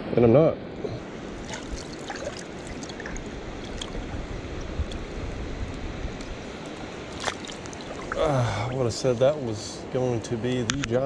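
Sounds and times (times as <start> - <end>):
river current rushing: 1.0 - 9.9.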